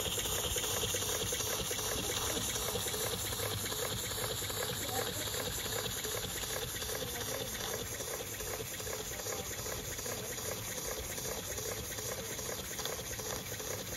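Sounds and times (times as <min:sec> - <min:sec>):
steam engine hissing and pulsing: 0:00.0 - 0:13.9.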